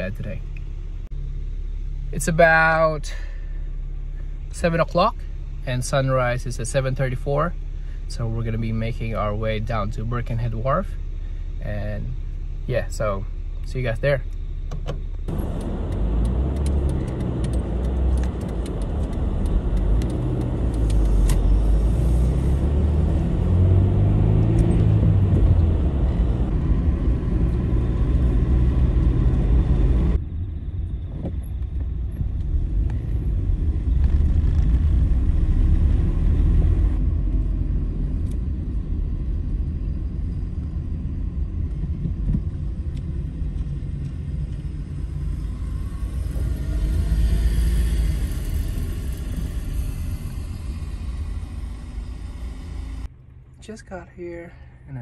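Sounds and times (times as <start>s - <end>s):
car engine accelerating: 0.0s - 54.0s
road rumble inside car: 0.0s - 55.0s.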